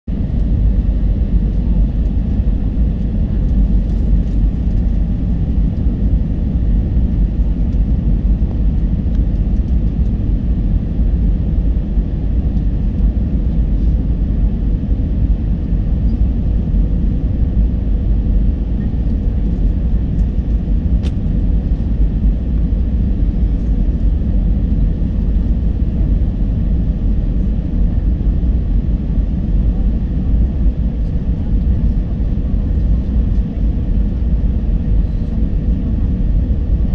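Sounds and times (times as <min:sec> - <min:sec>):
jet engine roar and air rush: 0:00.1 - 0:36.9.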